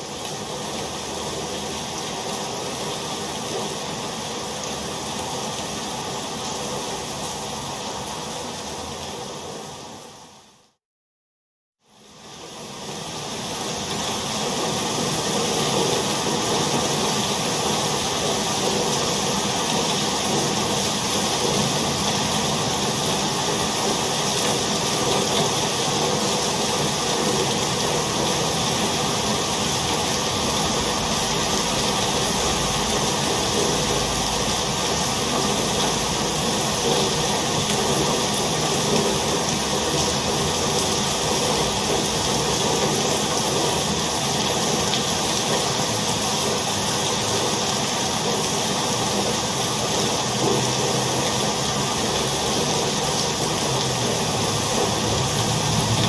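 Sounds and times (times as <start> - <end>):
rain falling: 0.0 - 10.4, 12.2 - 56.0.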